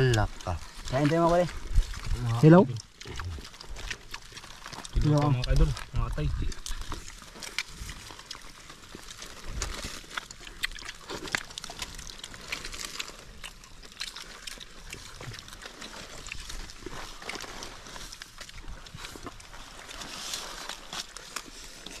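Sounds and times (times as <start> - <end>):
clicks and smacks of eating: 0.0 - 22.0
people eating with their hands: 0.0 - 22.0.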